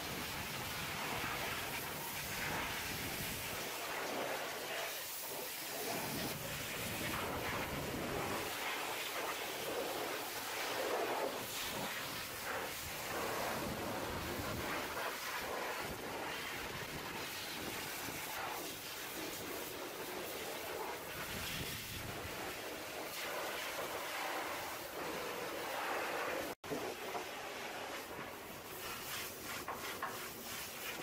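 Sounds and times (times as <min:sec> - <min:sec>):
pressure washer spraying metal: 0:00.1 - 0:31.0.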